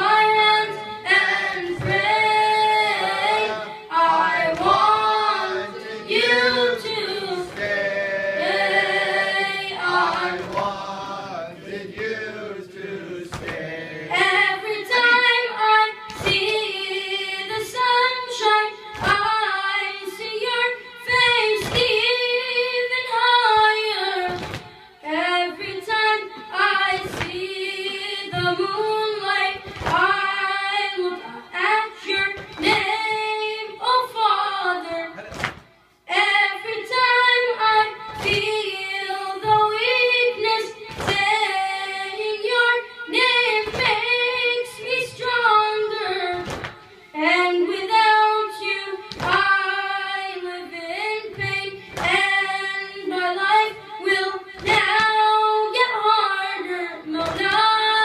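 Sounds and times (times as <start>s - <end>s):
boy chanting into a microphone: 0.0s - 35.4s, 36.1s - 58.0s.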